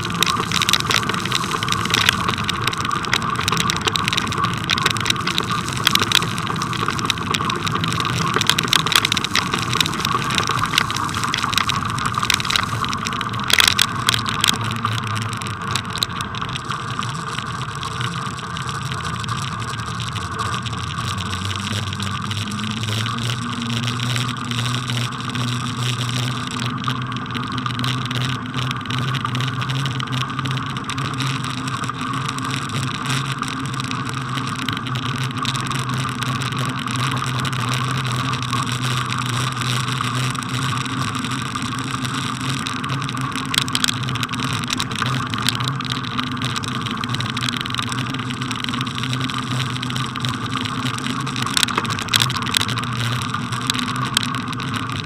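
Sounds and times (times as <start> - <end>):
bicycle rolling over snow: 0.0 - 55.0.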